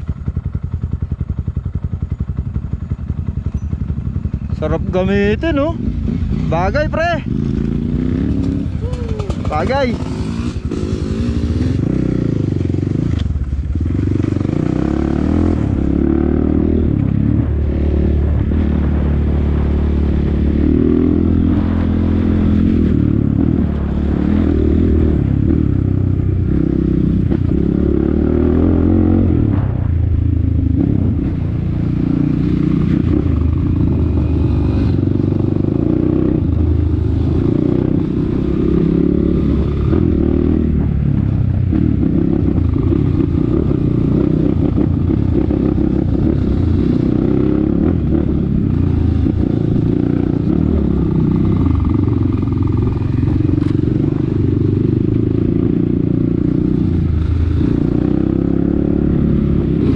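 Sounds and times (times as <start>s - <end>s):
dirt bike engine revving: 4.6s - 13.2s, 13.8s - 40.9s, 41.7s - 59.9s.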